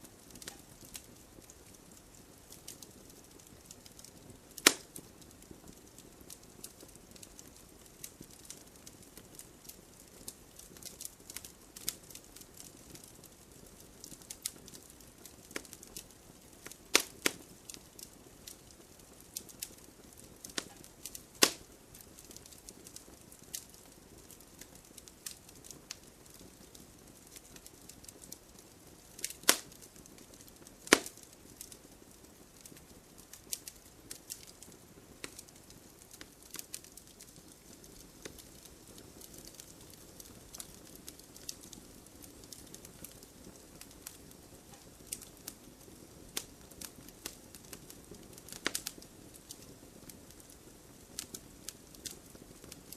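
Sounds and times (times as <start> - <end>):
campfire crackling: 0.0 - 52.9
soft hiss of fire: 0.0 - 52.9
loud fire pops: 0.1 - 13.1, 14.0 - 50.6.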